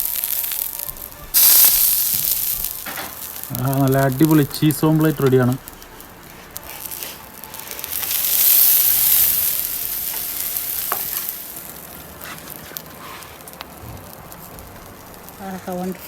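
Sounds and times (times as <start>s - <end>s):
omelette sizzling in hot oil: 0.0s - 16.0s.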